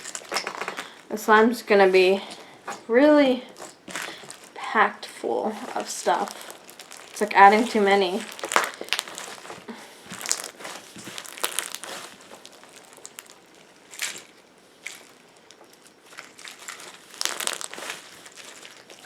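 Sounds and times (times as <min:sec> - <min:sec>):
slime crackling and squishing: 0:00.0 - 0:19.0.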